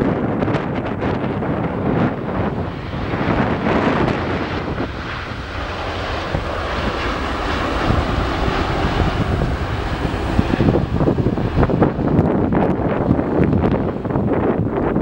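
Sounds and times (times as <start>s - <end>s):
jet engine rushing: 0.0s - 15.0s
wind buffeting microphone: 0.0s - 15.0s.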